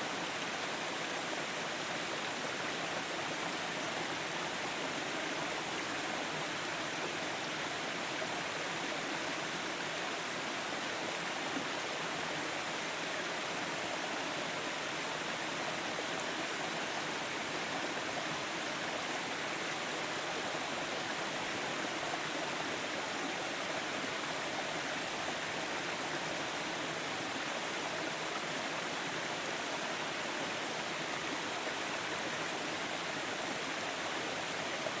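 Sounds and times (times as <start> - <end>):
stream rushing over rocks: 0.0 - 35.0.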